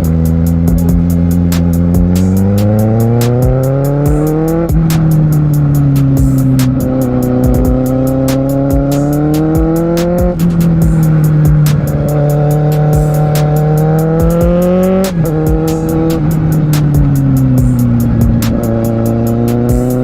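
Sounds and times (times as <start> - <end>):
fast even ticking: 0.0 - 20.0
motorcycle engine accelerating: 0.0 - 20.0.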